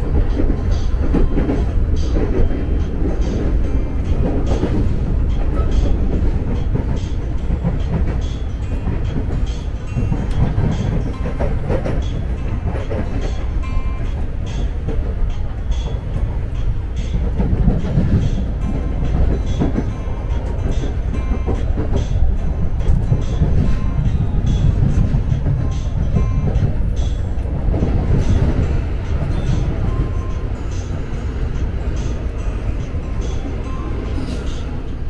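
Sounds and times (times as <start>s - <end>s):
electric train rumbling on rails: 0.0s - 35.0s
rail clicks: 0.0s - 35.0s.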